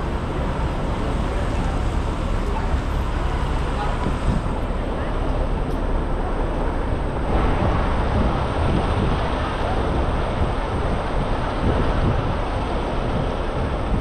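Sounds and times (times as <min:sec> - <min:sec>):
murmur of people: 0:00.0 - 0:13.8
traffic rumble: 0:00.0 - 0:14.0.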